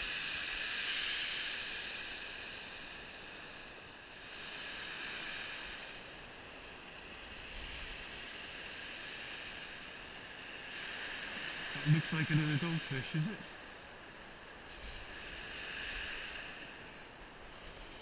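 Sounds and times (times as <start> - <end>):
surf washing up shingle beach: 0.1 - 18.0.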